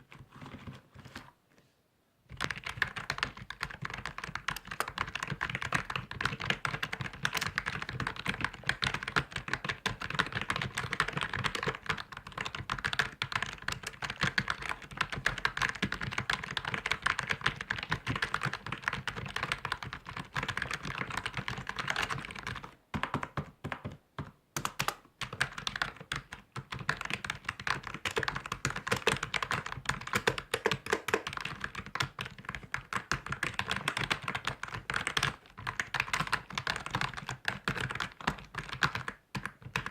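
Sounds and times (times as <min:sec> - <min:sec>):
computer keyboard typing: 0:02.3 - 0:39.9.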